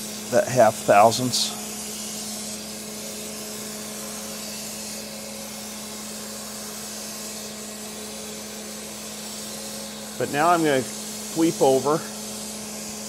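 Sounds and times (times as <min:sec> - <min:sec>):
grinding machine motor hum: 0:00.0 - 0:13.0
grinding wheel hiss: 0:00.0 - 0:13.0.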